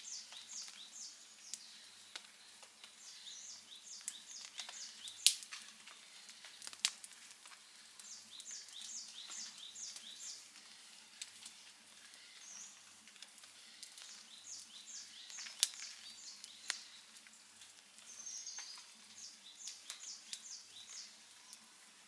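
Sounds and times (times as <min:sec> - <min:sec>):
campfire crackling and popping: 0:00.0 - 0:21.6.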